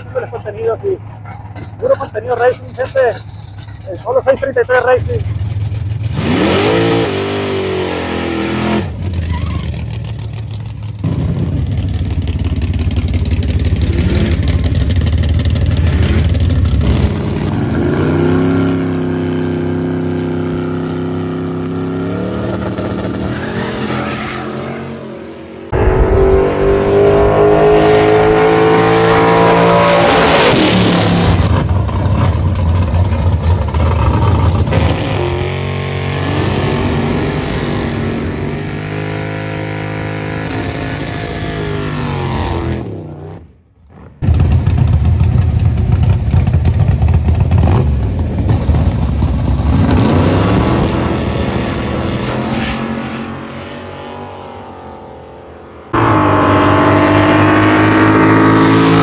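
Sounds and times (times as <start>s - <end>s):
drag race car engines revving: 0.0s - 59.0s.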